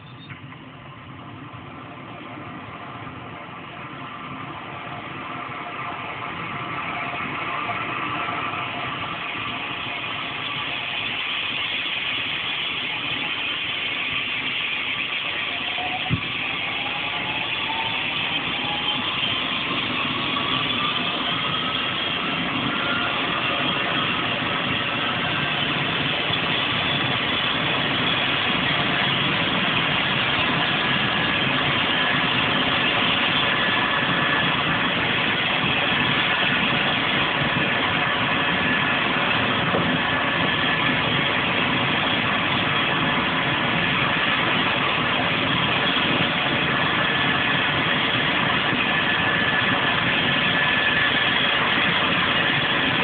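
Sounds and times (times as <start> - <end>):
helicopter turbine and rotor running: 0.0 - 53.0
high turbine whine: 0.0 - 53.0.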